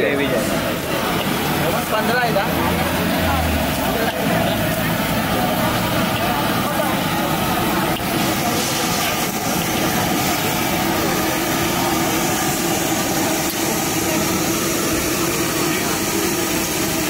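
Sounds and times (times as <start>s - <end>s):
busy street hubbub: 0.0s - 17.0s
gas burner roaring: 0.0s - 17.0s.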